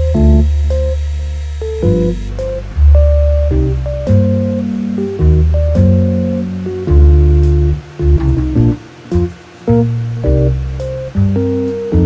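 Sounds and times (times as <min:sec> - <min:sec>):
background music melody over bass: 0:00.0 - 0:12.0.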